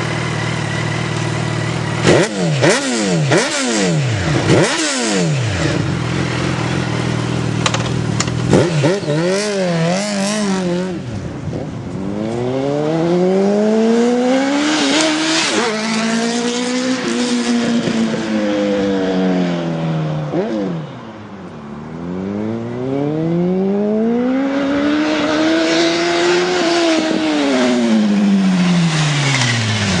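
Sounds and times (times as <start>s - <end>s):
motorcycle engine revving: 0.0s - 21.3s, 21.9s - 30.0s.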